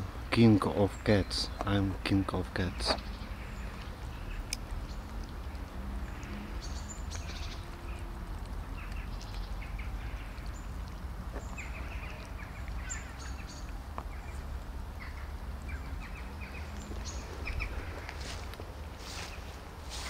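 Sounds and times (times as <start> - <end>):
steady low rumble: 0.0 - 20.0
cats crunching dry kibble: 0.4 - 20.0.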